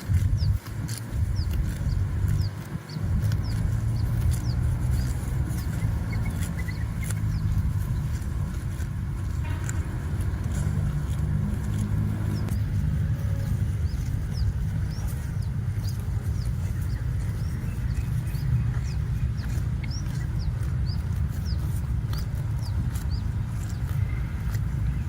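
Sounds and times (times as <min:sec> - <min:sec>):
bird chirping: 0:00.0 - 0:08.7, 0:10.4 - 0:25.0
steady low rumble: 0:00.0 - 0:25.0.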